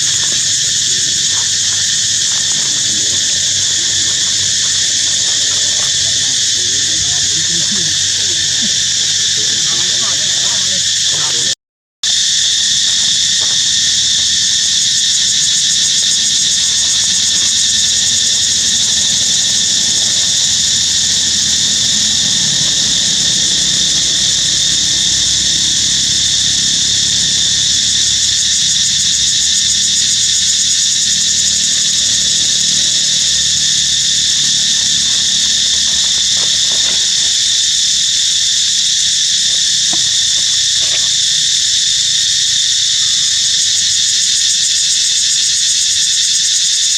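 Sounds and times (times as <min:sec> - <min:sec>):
insect chorus drone: 0:00.0 - 0:46.9.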